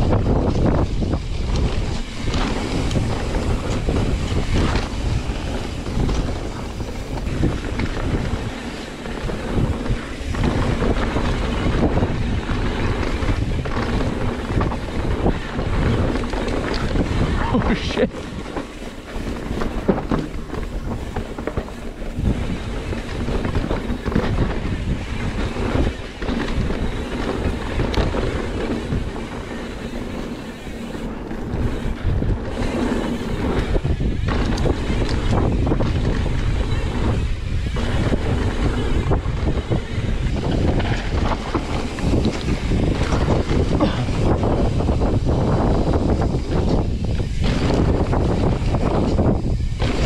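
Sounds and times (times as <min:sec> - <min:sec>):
bike knocks and rattles: 0:00.0 - 0:50.0
tyres rumbling over dirt: 0:00.0 - 0:50.0
wind rushing over microphone: 0:00.0 - 0:50.0.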